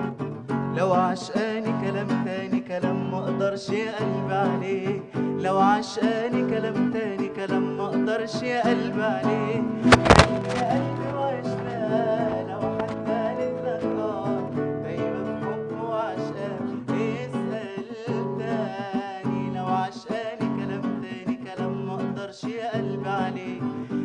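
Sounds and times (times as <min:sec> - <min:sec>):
acoustic guitar chords: 0:00.0 - 0:24.0
man singing: 0:00.7 - 0:24.0.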